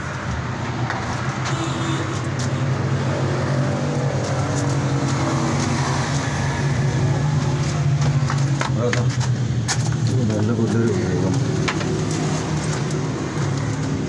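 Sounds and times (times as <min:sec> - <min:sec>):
car engine idling: 0:02.2 - 0:14.0.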